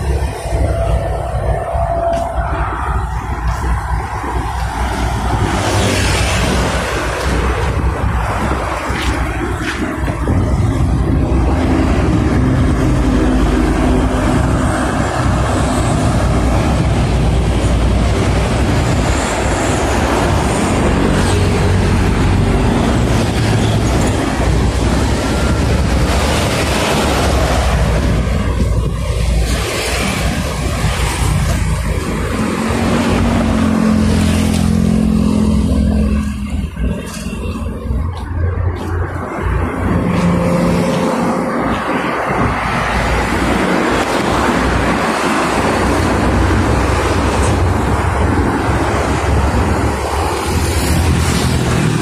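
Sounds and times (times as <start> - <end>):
highway traffic rumble: 0.0 - 52.0
low engine drone: 0.0 - 52.0
truck passing close: 0.0 - 52.0.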